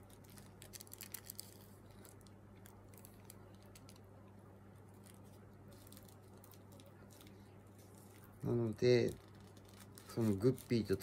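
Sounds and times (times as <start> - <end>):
tissue paper crinkling: 0.0 - 4.1, 4.8 - 11.0
faint low hum: 0.0 - 11.0.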